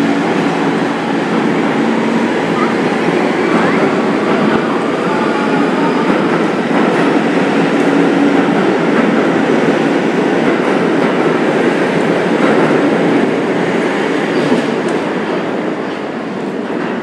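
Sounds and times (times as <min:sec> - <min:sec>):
subway train wheel and rail noise: 0:00.0 - 0:17.0.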